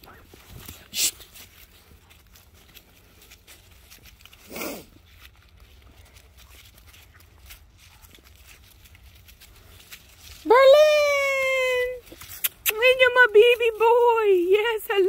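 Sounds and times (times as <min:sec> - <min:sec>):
puppies scuffling ticks and rustles: 0:00.0 - 0:15.0.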